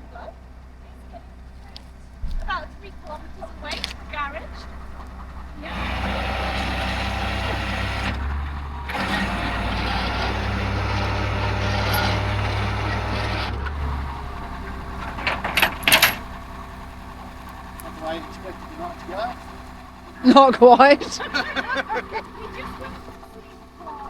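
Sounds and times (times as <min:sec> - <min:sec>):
vehicle engine accelerating: 0:00.0 - 0:24.0.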